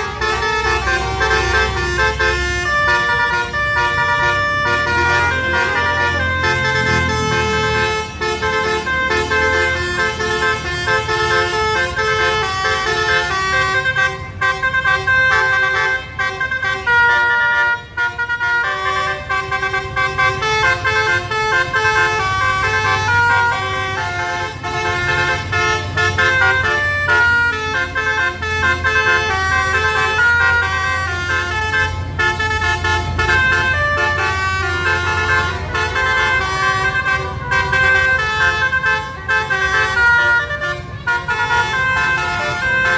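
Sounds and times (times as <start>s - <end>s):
low engine rumble: 0.0s - 42.9s
musical air horn tune: 0.0s - 42.9s.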